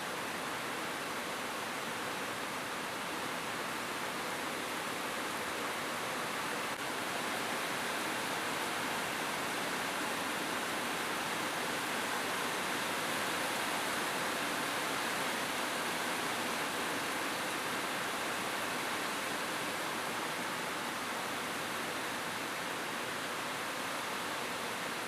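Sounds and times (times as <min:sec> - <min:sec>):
rain falling on a roof: 0:00.0 - 0:25.0.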